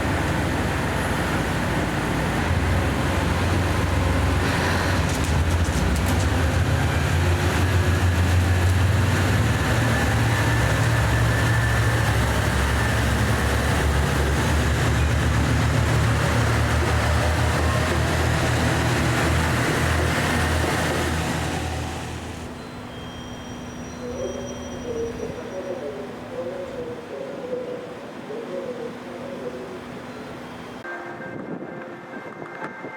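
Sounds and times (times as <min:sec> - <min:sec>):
diesel railcar engines droning: 0:00.0 - 0:32.6.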